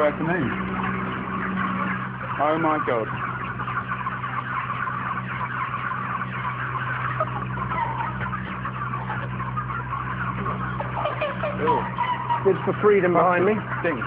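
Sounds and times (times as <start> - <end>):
chickens peeping and chirping: 0.0 - 14.0
steady low hum: 0.0 - 14.0.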